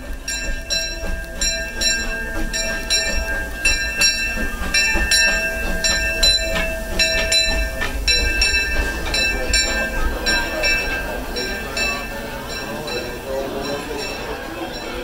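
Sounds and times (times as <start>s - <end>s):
locomotive bell ringing: 0.0s - 15.0s
low rumble of moving train: 0.0s - 15.0s.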